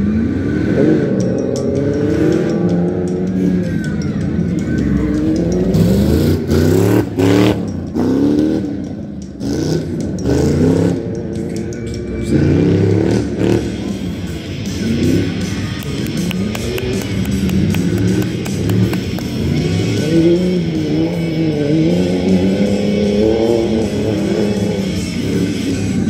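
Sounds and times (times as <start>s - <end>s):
truck engine revving hard: 0.0s - 3.7s, 5.2s - 11.2s, 12.2s - 26.0s.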